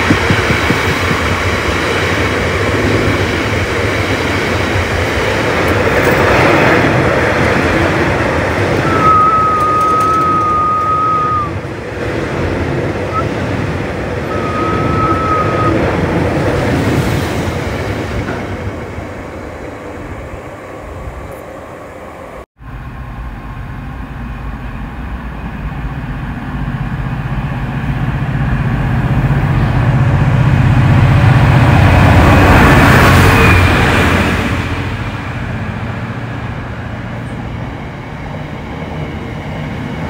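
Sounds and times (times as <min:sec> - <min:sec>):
train engine hum passing: 0:00.0 - 0:40.0
train rumble: 0:00.0 - 0:40.0.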